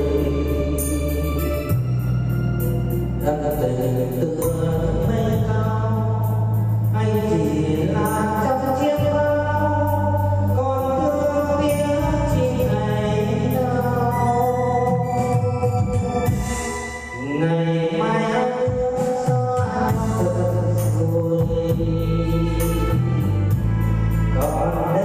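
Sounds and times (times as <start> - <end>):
light steady beat: 0.0 - 17.2, 18.6 - 25.0
electronic organ melody: 0.0 - 25.0
sustained bass notes: 0.0 - 25.0.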